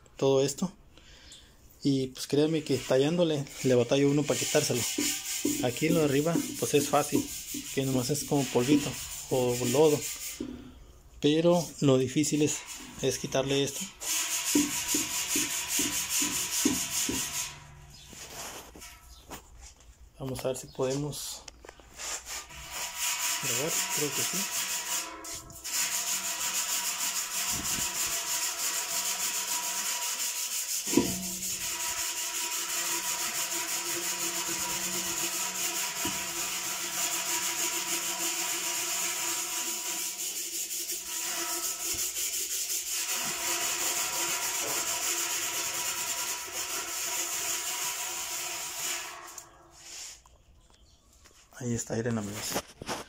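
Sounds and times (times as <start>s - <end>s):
steel wool scrubbing metal tub: 2.2s - 19.1s, 22.0s - 50.2s.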